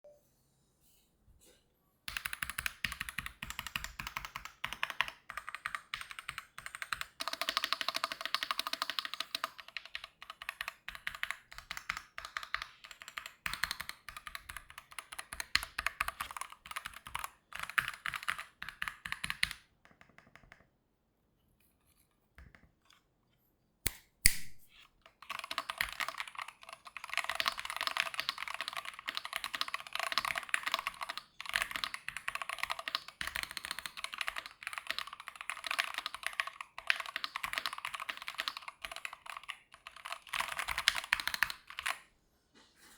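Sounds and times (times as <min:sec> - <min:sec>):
keyboard typing: 0:02.1 - 0:20.7, 0:25.1 - 0:42.0.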